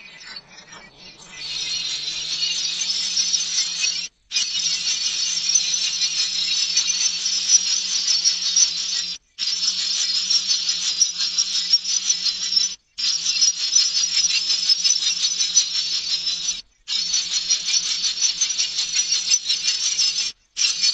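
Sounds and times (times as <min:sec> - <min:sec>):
baby birds begging calls: 0:00.0 - 0:20.9.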